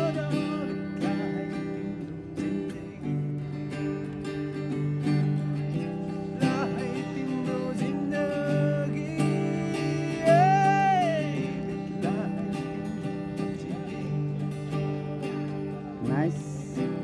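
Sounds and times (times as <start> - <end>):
man singing: 0.0 - 4.1, 6.0 - 17.0
acoustic guitar strumming: 0.0 - 17.0.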